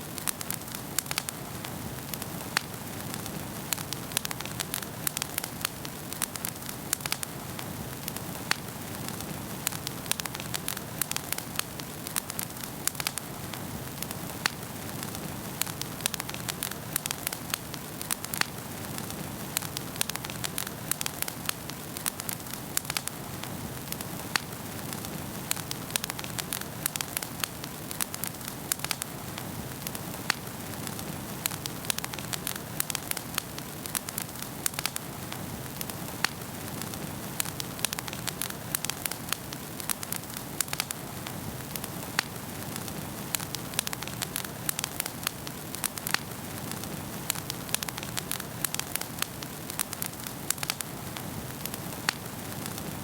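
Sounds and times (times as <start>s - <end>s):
low rustle of flames: 0.0s - 53.0s
wood fire crackling and popping: 0.0s - 53.0s.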